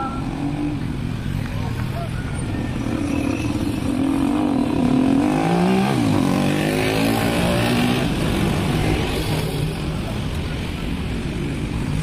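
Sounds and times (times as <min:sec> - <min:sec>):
road noise: 0:00.0 - 0:12.0
vehicles driving past: 0:00.0 - 0:12.0.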